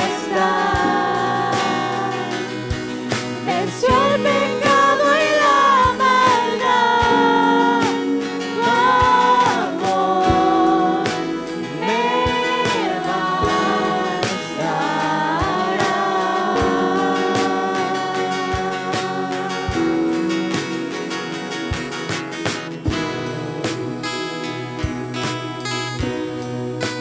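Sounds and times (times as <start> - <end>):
band playing steady chords: 0.0 - 27.0.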